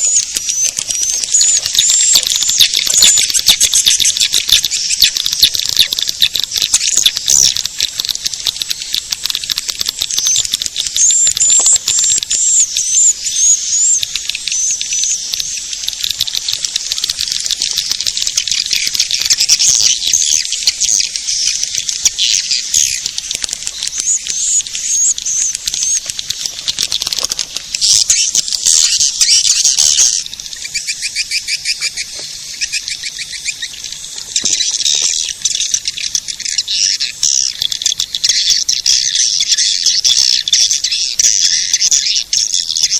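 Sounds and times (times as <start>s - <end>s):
rapid twittering swiftlet chirps: 0.0s - 42.9s.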